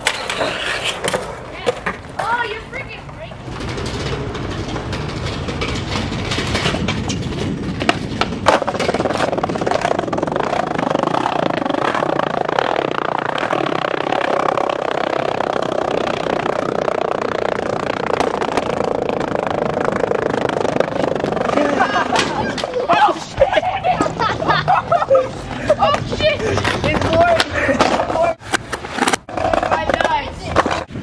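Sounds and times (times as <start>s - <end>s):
small wheels rolling on concrete: 0.0s - 31.0s.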